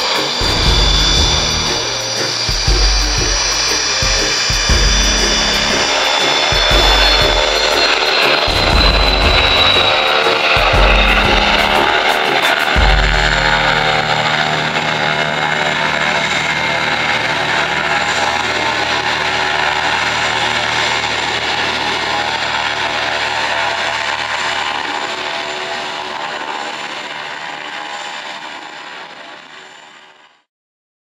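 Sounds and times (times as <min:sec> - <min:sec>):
jet roar with high whine: 0:00.0 - 0:30.5.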